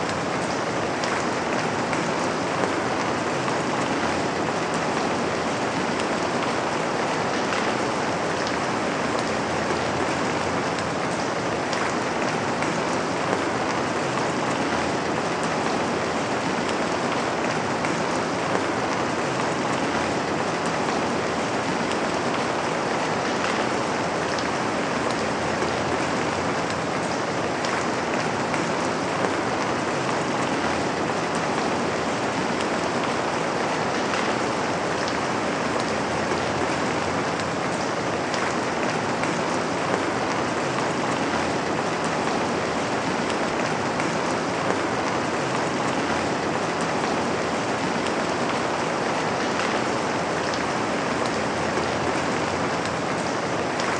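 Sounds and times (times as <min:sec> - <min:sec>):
rain on a window: 0:00.0 - 0:53.9.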